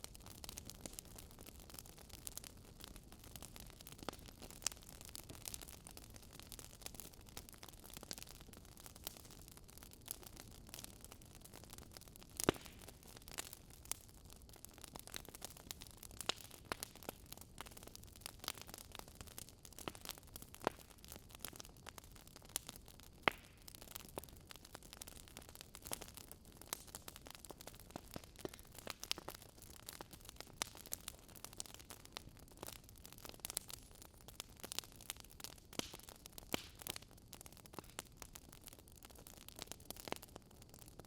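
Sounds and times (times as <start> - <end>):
burning logs crackling: 0.0 - 41.0.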